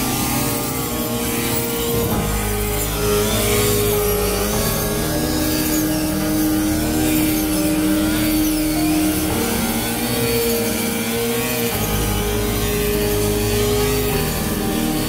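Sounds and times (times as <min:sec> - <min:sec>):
small four-stroke engine running: 0:00.0 - 0:15.0.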